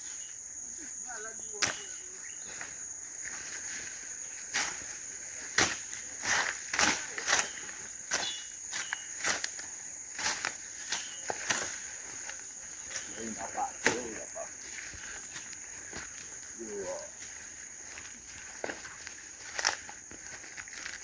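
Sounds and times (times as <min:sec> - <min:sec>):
footsteps crunching through dry leaves: 0:00.0 - 0:21.0
insect chirring: 0:00.0 - 0:21.0.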